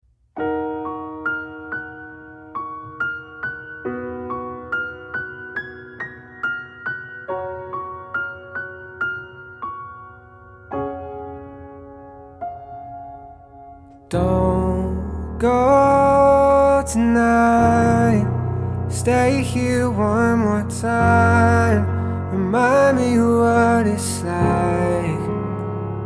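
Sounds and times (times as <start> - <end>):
slow piano melody: 0.1 - 26.0.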